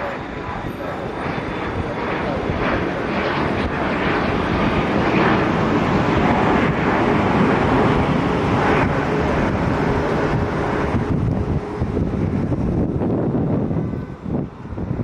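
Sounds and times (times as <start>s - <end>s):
jet engine noise: 0.0s - 15.0s
wind on microphone: 0.0s - 15.0s.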